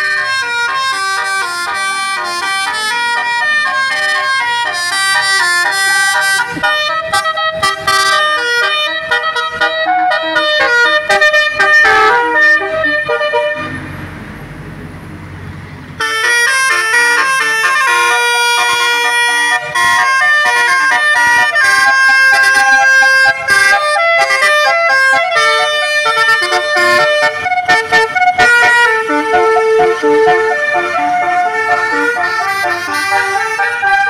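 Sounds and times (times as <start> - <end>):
musical air horn melody: 0.0 - 13.9, 16.0 - 34.0.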